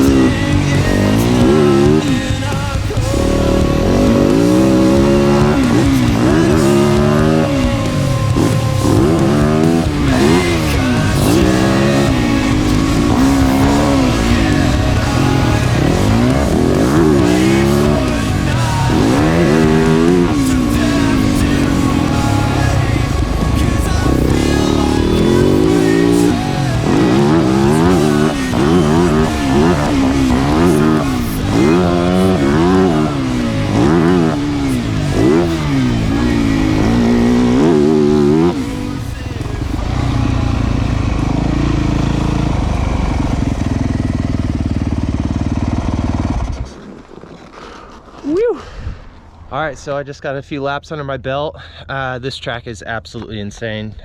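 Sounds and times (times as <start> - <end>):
background music: 0.0 - 44.9
dirt bike engine revving: 0.0 - 48.2.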